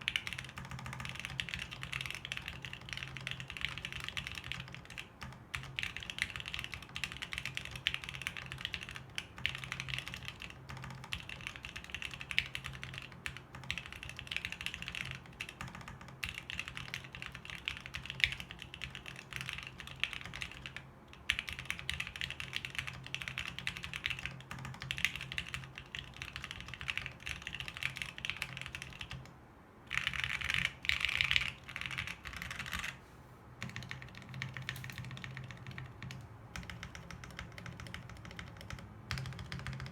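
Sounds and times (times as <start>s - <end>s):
mechanical keyboard typing: 0.0s - 29.3s, 29.9s - 33.0s, 33.6s - 39.9s.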